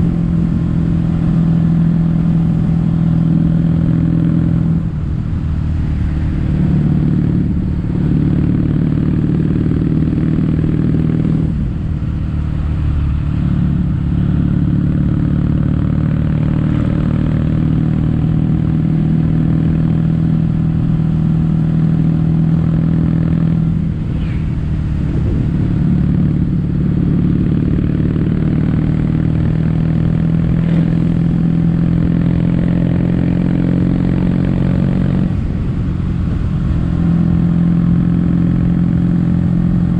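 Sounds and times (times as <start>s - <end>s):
motorcycle engine exhaust: 0.0s - 39.9s.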